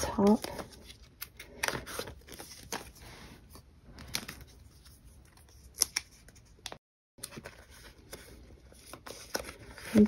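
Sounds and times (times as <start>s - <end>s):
plastic sleeves rustling: 0.0s - 10.0s.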